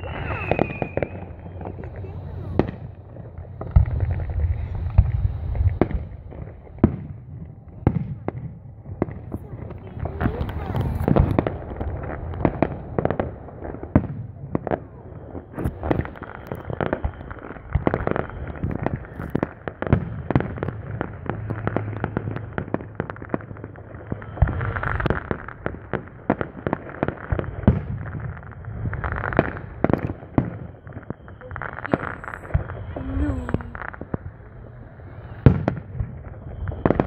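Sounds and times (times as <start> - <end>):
fireworks bangs and crackling pops: 0.0 - 37.0
fireworks booms: 0.0 - 37.0.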